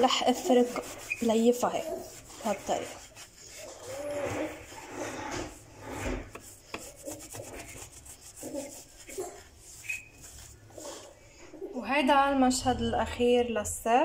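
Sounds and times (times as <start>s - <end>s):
cloth rubbing grill plate: 0.0s - 11.7s.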